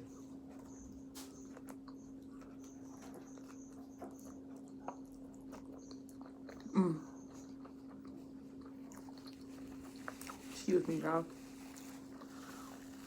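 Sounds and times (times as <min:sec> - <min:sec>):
person chewing food: 0:00.0 - 0:10.6, 0:11.3 - 0:13.0
low electrical hum: 0:00.0 - 0:13.0.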